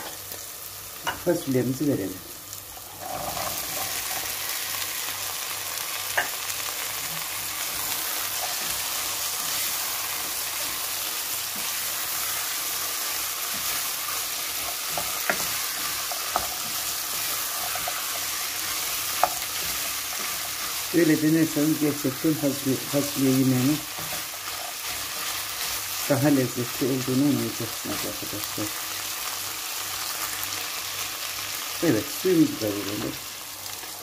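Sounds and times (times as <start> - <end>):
beans sizzling in oil: 0.0 - 34.0.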